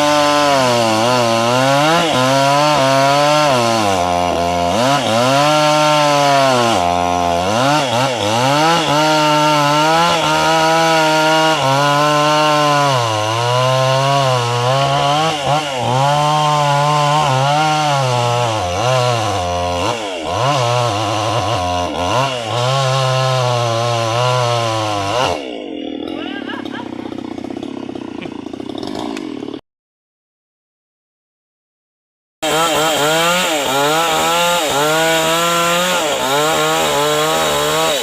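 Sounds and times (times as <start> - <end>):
chainsaw cutting wood: 0.0 - 29.6, 32.4 - 38.0.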